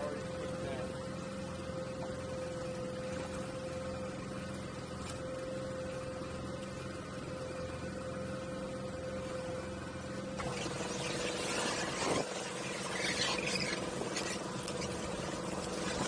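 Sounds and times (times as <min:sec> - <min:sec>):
constant mid-pitched tone: 0:00.0 - 0:16.0
mechanical hum: 0:00.0 - 0:16.0.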